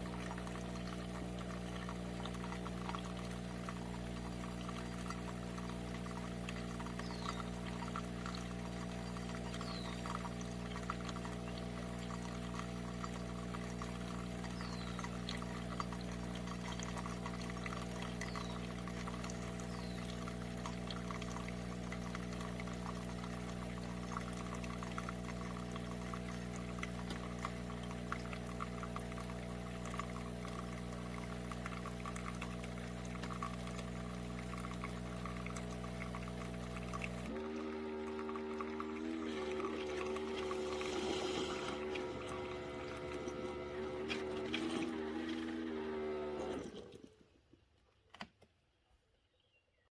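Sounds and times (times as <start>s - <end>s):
coffee maker humming: 0.0s - 47.2s
liquid pouring into cup: 0.0s - 47.2s.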